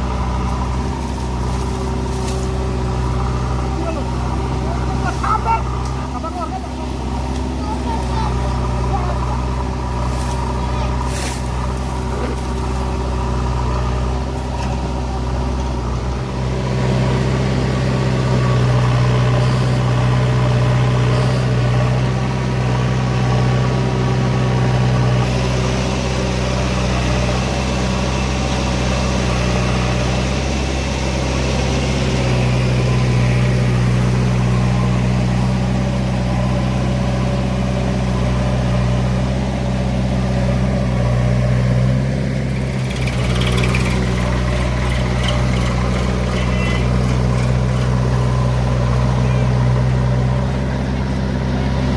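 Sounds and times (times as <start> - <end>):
engine droning: 0.0 - 51.9.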